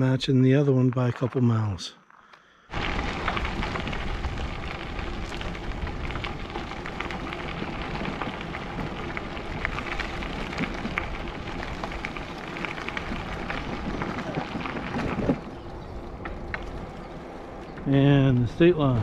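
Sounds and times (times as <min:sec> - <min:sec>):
bike tyres rolling on gravel: 0:02.5 - 0:19.0.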